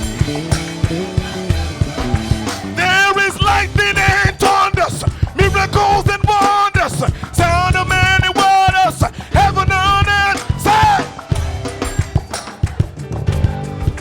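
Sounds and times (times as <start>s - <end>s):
person singing: 0.0s - 11.4s
gospel band playing: 0.0s - 14.0s.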